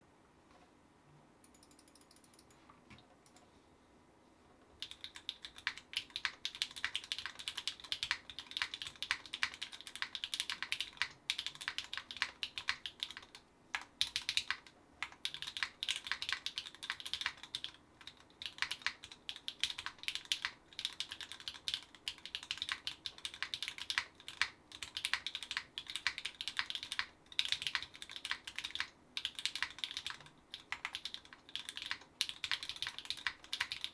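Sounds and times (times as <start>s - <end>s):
typing on mechanical keyboard: 4.8s - 33.9s.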